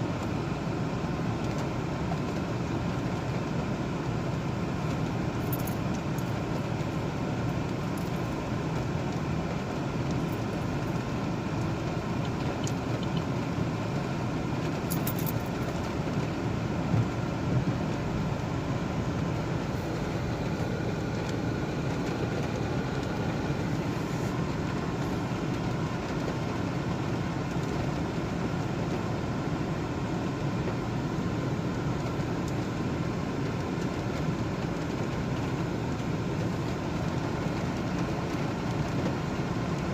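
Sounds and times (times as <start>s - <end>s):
car driving road noise: 0.0s - 39.9s.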